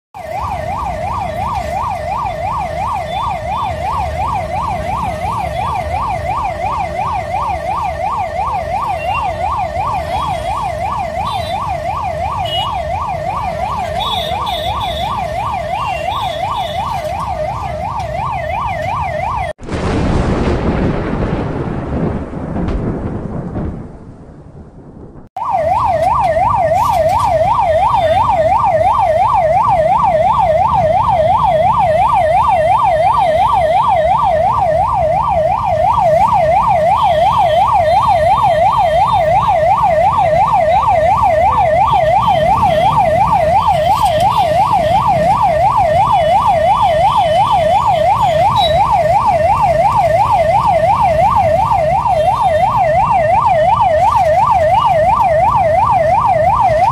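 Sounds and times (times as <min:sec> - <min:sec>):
ambulance siren warbling: 0:00.2 - 0:19.6, 0:25.4 - 0:56.9
low traffic rumble: 0:00.2 - 0:56.9.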